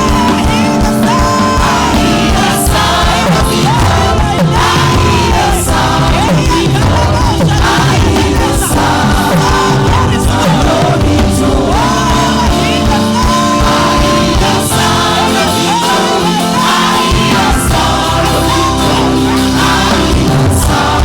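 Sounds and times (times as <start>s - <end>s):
gospel singers with band: 0.0s - 21.0s.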